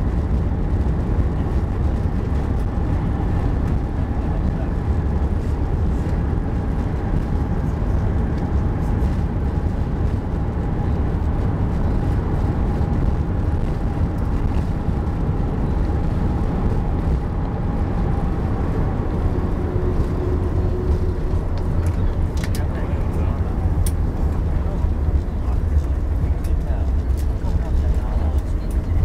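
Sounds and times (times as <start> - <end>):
aircraft cabin rumble: 0.0 - 29.0
low hum: 0.0 - 29.0.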